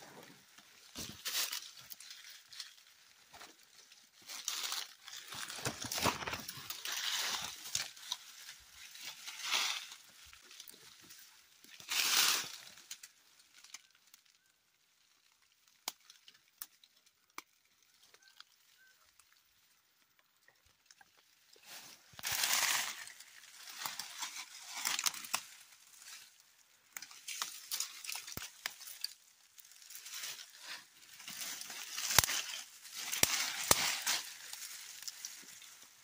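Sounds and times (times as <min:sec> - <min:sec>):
dry grass rustling and crackling: 0:00.0 - 0:36.0
twigs snapping: 0:00.5 - 0:14.4, 0:15.3 - 0:19.3, 0:22.1 - 0:36.0.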